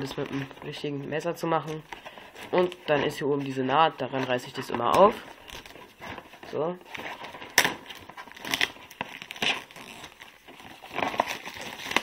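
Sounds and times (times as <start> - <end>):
plastic shrink-wrap crinkling: 0.0 - 12.0.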